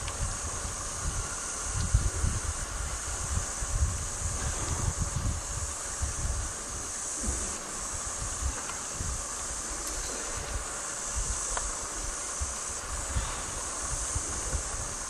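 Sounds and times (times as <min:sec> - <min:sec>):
insects chirring: 0:00.0 - 0:15.0
wind rumbling on microphone: 0:00.0 - 0:15.0.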